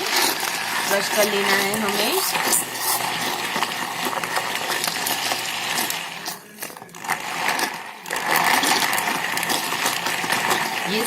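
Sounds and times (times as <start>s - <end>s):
electric mixer grinder blending: 0.0s - 11.0s.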